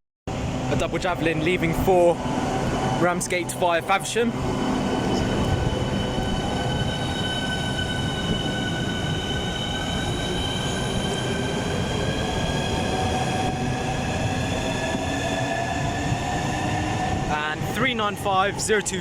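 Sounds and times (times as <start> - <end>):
electric train traction whine: 0.3 - 18.9
train wheels rumbling on rails: 0.3 - 19.0.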